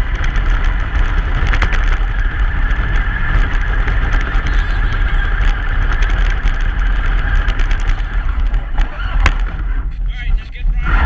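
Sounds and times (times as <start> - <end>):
small clicks and rattles: 0.0 - 9.6
truck engine and tyres rumbling: 0.0 - 11.0.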